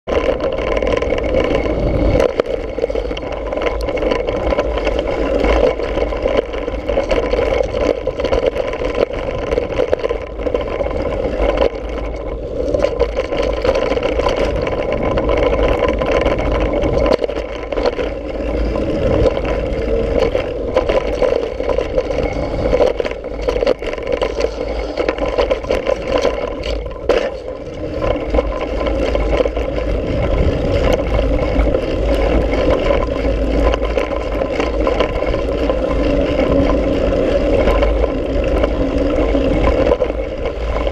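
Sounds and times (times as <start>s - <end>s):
bike rattling over bumps: 0.0s - 40.9s
bike tyres rolling over dirt: 0.0s - 40.9s
wind rumbling on microphone: 0.0s - 40.9s.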